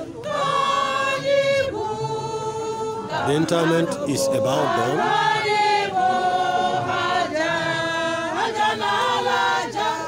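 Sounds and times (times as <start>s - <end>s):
choir singing unaccompanied: 0.0s - 10.0s.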